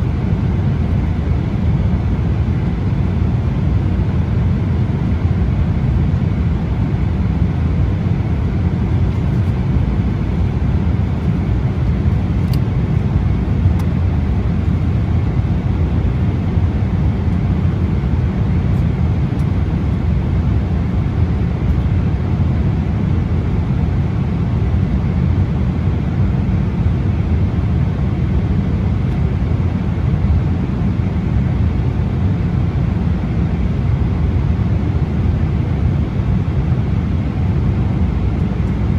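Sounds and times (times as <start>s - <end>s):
jet engines and airflow rushing: 0.0s - 38.9s.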